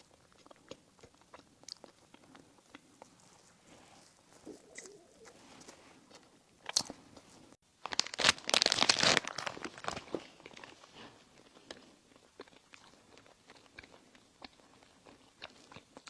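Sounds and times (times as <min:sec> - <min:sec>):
soft chewing: 0:00.0 - 0:07.6, 0:10.0 - 0:16.0
crisp crunch of bread: 0:00.0 - 0:16.0.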